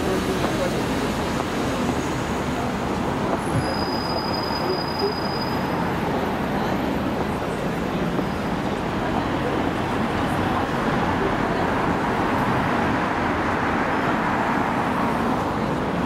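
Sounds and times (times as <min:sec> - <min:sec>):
crowd noise: 0:00.0 - 0:16.0
traffic: 0:00.0 - 0:16.0.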